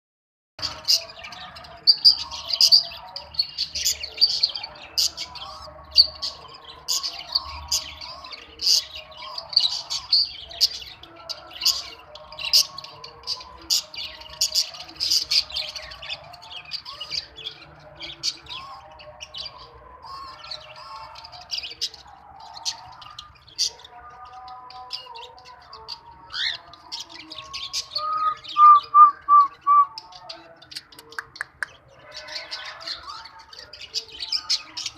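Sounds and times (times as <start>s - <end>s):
small parrots chirping and chattering: 0.6s - 34.9s.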